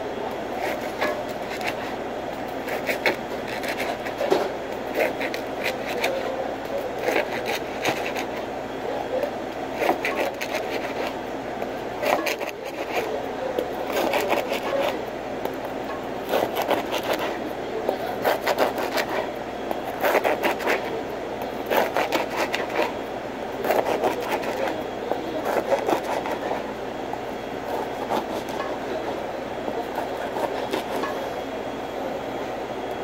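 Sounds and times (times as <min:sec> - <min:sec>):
kitchen hum: 0:00.0 - 0:33.0.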